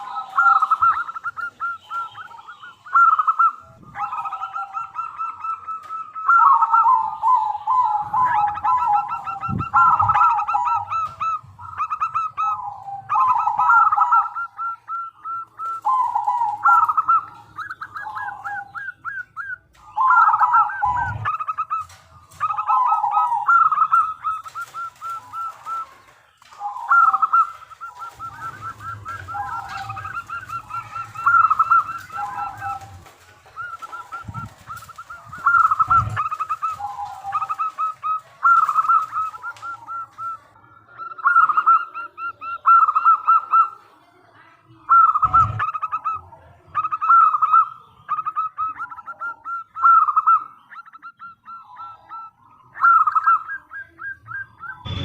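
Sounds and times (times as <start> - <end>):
dove cooing trilled notes: 0.0 - 44.0, 44.6 - 55.0.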